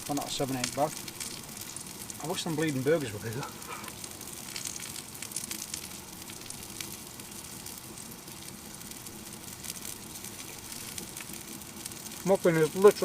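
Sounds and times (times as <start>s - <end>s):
wood fire hissing and crackling: 0.0s - 13.0s.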